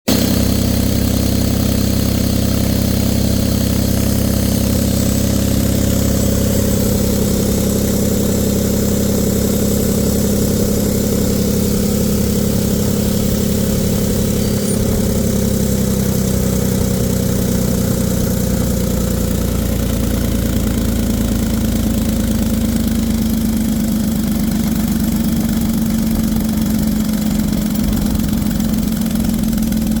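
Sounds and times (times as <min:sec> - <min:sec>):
air compressor running: 0:00.1 - 0:30.0.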